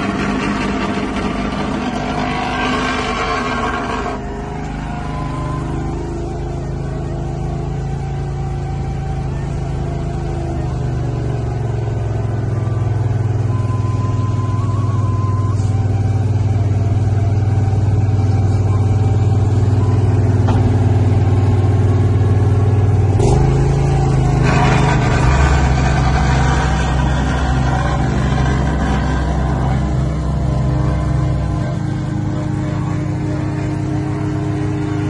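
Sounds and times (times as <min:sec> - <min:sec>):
harsh rough machine noise: 0:00.0 - 0:35.0
paving machinery engines droning: 0:00.0 - 0:35.0.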